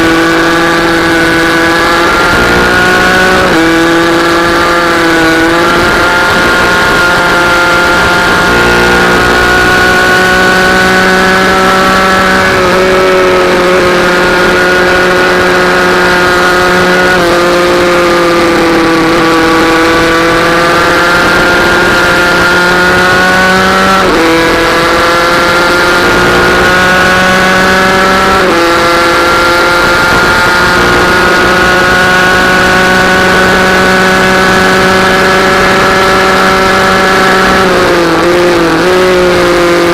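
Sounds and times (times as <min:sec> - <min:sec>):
minibike engine at high revs: 0:00.0 - 0:39.9.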